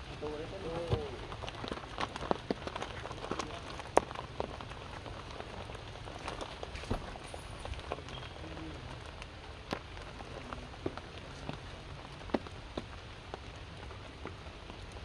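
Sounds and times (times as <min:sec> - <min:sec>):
rain pattering on leaves and stone: 0:00.0 - 0:15.0.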